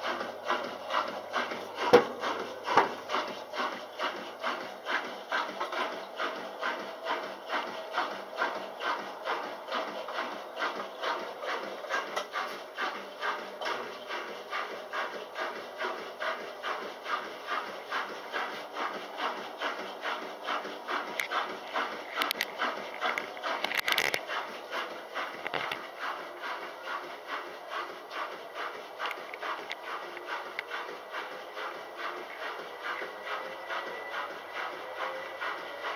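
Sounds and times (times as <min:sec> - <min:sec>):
washing machine agitating: 0:00.0 - 0:35.9.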